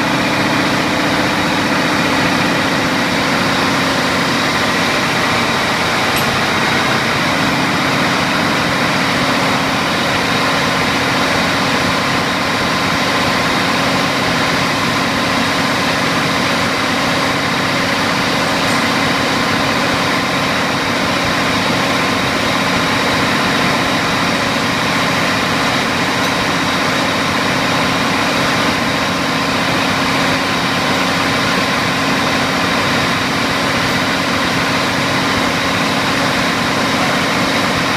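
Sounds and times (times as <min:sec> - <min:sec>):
engine-room machinery din: 0:00.0 - 0:37.9.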